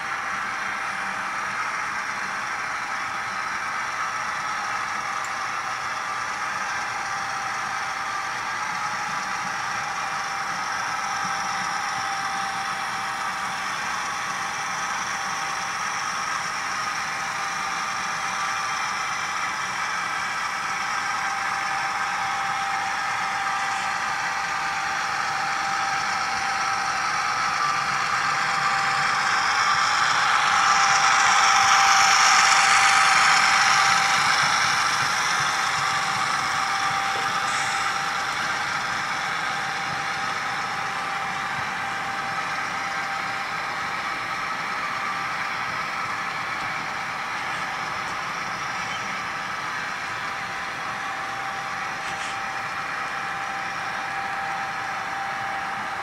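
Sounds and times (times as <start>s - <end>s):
model locomotive diesel engine sound: 0.0s - 56.0s
model train cars rolling: 0.0s - 56.0s.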